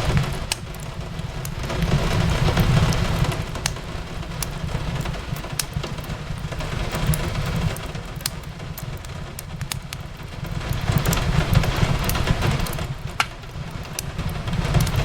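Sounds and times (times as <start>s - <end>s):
rain hiss: 0.0s - 15.0s
wood fire crackling: 0.0s - 15.0s.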